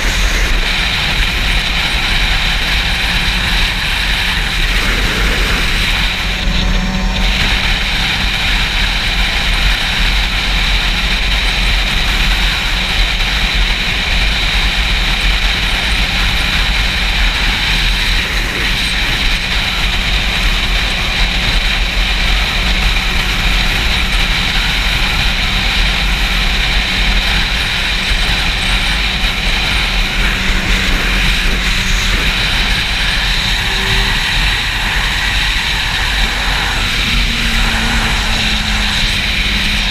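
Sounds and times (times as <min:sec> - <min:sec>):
motorcycle engine hum: 0:00.0 - 0:39.9
wind buffeting microphone: 0:00.0 - 0:39.9.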